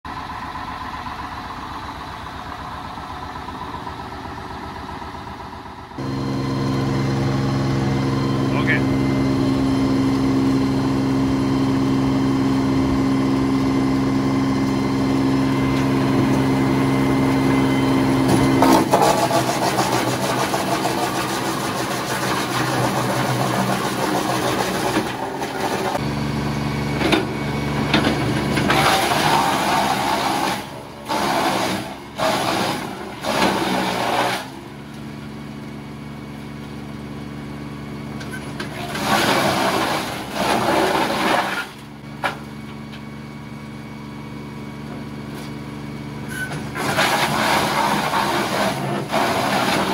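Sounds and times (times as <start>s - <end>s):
wood chipper chipping logs: 0.1s - 49.9s.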